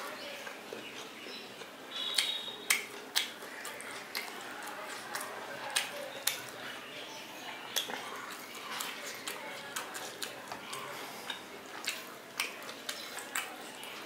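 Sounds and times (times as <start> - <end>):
person chewing food: 0.0 - 6.8, 7.5 - 14.0
mouth clicks and smacks: 0.4 - 6.6, 7.7 - 14.0.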